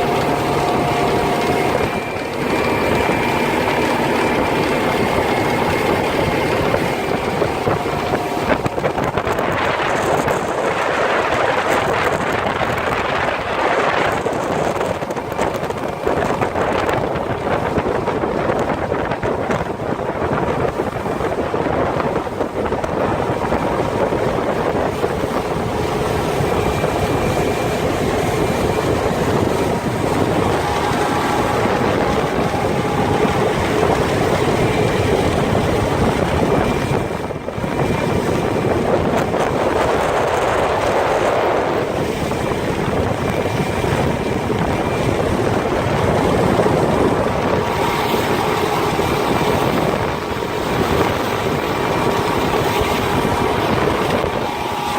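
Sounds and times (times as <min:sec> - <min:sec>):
outboard motors droning: 0:00.0 - 0:54.9
wind noise on microphone: 0:00.0 - 0:54.9.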